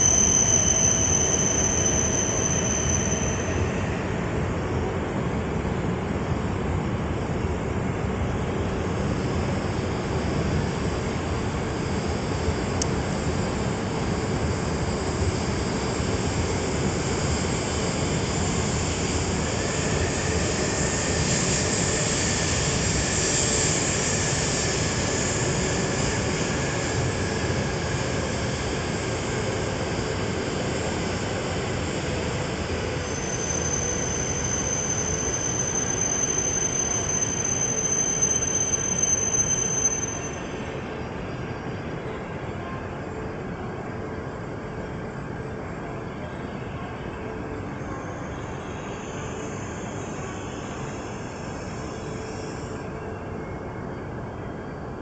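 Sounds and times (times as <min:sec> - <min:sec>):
high brake squeal: 0:00.0 - 0:05.0, 0:08.9 - 0:55.0
train rumbling into station: 0:00.0 - 0:55.0.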